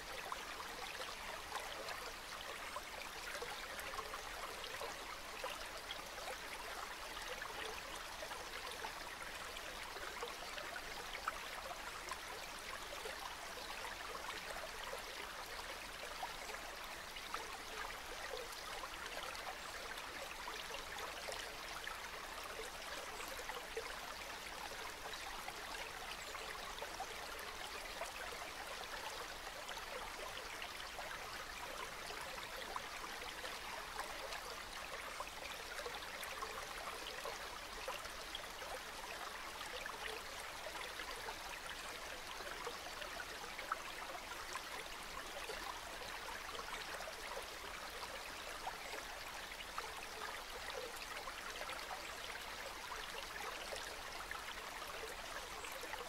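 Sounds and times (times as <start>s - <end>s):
river water babbling: 0.0s - 56.0s.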